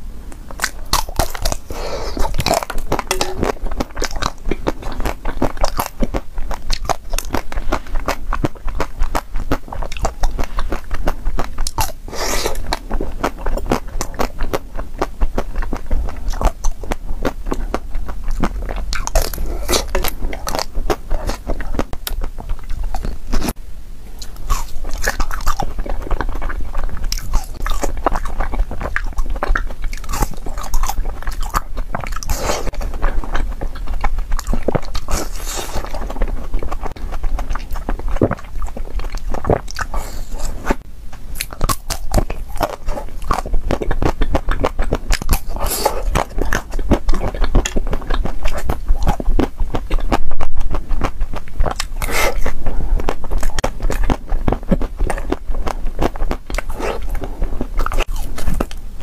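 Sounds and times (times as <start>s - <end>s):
chewing: 0.3s - 59.0s.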